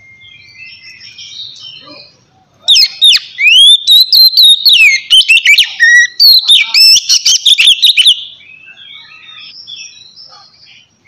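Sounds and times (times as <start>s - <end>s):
bird singing whistled phrases: 0.0s - 10.8s
soft bird twittering: 0.0s - 11.0s.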